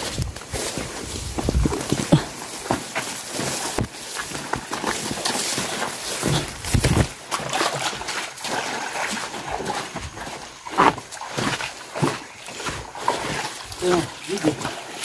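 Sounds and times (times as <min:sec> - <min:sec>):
footsteps splashing through stream: 0:00.0 - 0:15.0
running water: 0:00.0 - 0:15.0.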